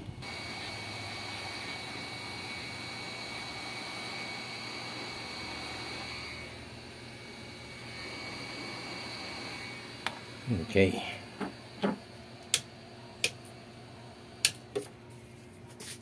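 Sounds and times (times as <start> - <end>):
heat gun fan whining: 0.0 - 15.4.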